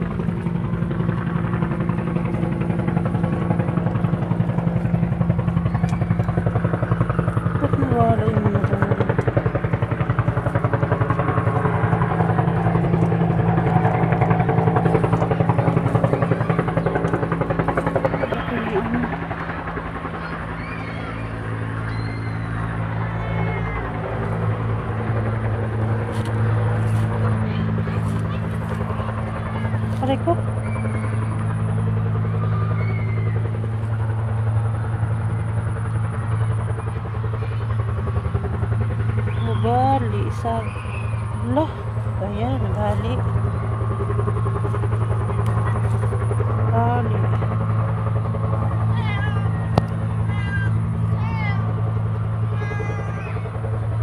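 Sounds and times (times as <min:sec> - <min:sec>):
motor running with throbbing: 0:00.0 - 0:54.0.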